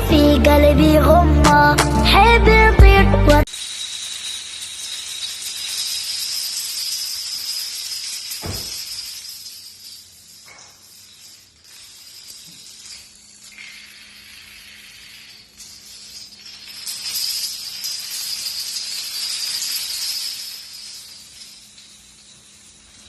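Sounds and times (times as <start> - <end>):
high-pitched hiss: 3.4 - 23.0.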